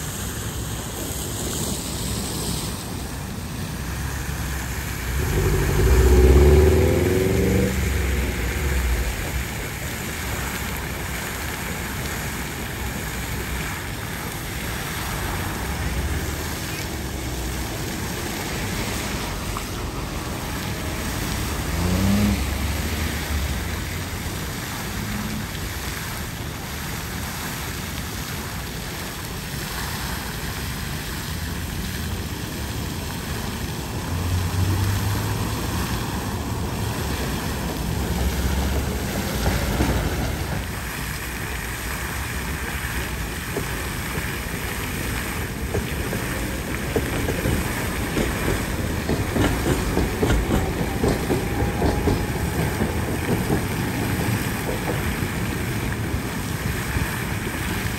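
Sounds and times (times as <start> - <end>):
vehicles rumbling past: 0.0 - 57.9
water gushing spray: 0.0 - 57.9.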